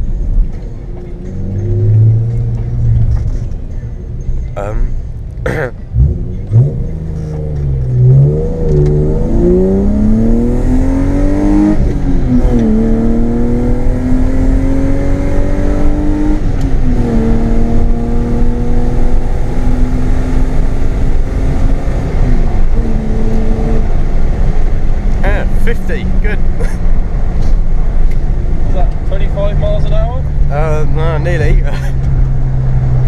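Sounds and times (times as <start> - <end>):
car engine accelerating hard: 0.9 - 3.5, 5.9 - 33.0.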